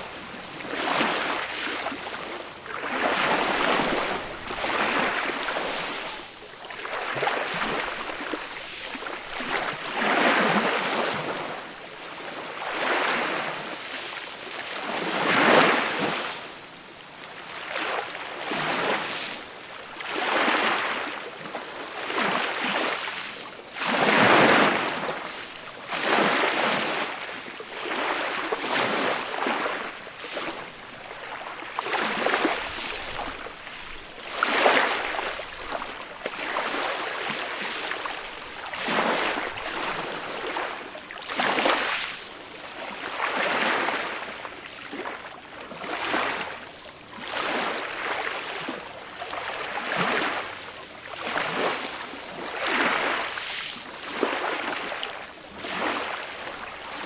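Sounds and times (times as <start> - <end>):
gentle waves breaking on beach: 0.0 - 57.0.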